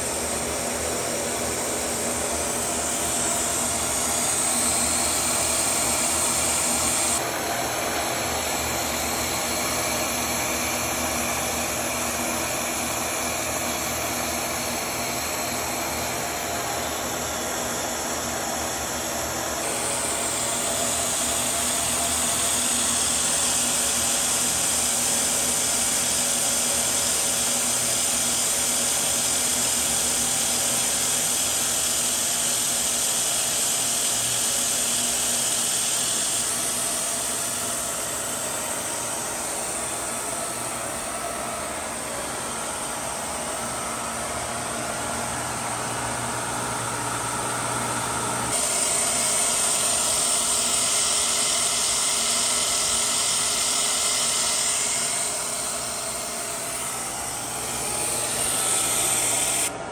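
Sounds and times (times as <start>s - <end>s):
machine tool hiss and hum: 0.0s - 59.9s.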